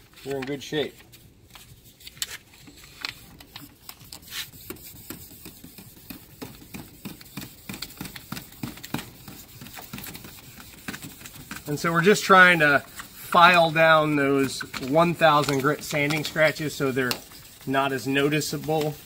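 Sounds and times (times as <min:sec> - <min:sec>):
sandpaper scratching plastic: 0:01.6 - 0:19.0.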